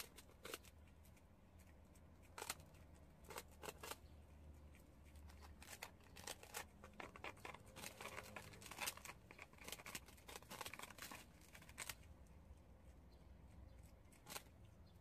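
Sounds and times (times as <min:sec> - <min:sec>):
prairie dogs crunching rice cakes: 0:00.0 - 0:15.0.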